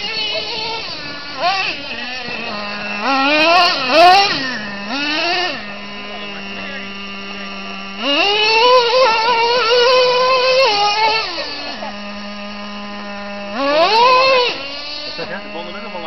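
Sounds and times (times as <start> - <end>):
model truck engine buzzing and revving: 0.0 - 16.0.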